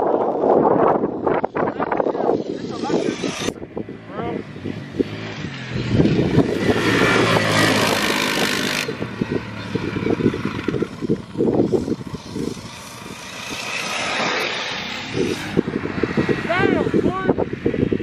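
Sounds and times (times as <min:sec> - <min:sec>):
wind noise on microphone: 0:00.0 - 0:18.0
distant quad engine running: 0:02.3 - 0:18.0.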